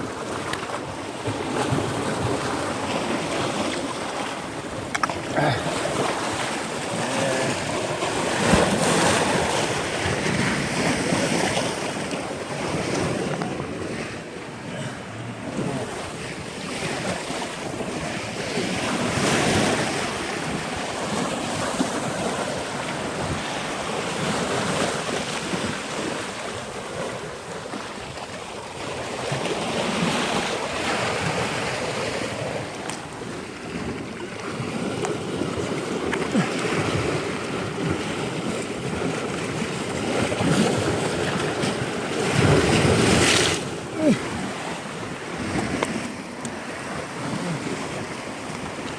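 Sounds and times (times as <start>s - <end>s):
waves washing on shore: 0.0s - 48.9s.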